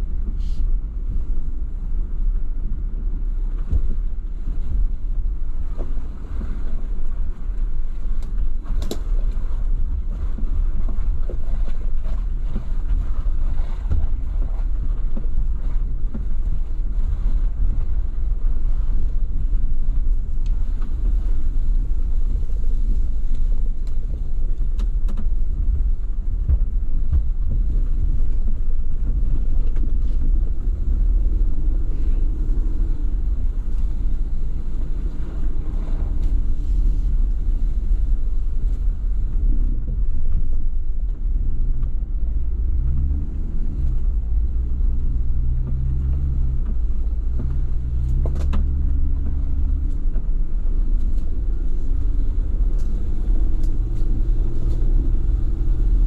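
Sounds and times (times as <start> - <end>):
vehicle engine and tyres rumbling: 0.0 - 56.0
wind buffeting microphone: 0.0 - 56.0.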